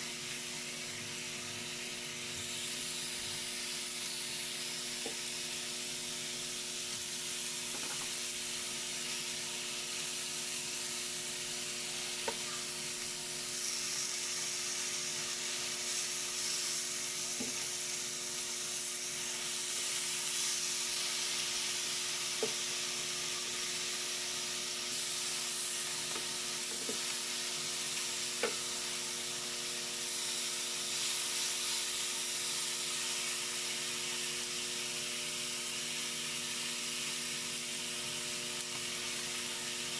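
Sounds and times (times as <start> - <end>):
meat sizzling on a grill: 0.0 - 39.9.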